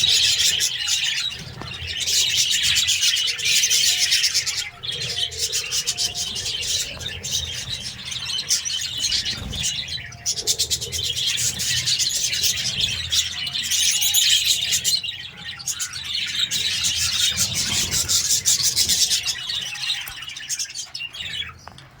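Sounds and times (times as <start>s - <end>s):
budgerigars chattering and chirping: 0.0s - 21.8s.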